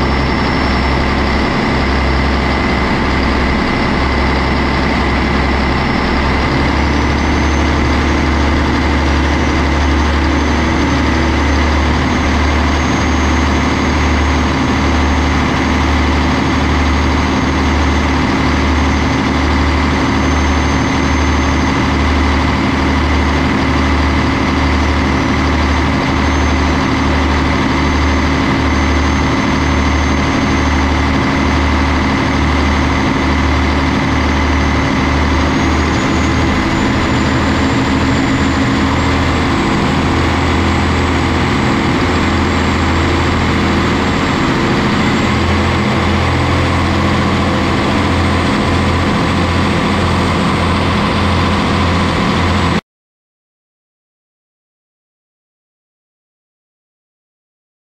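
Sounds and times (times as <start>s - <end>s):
diesel engine running: 0.0s - 52.8s
high turbo whine: 0.0s - 52.8s.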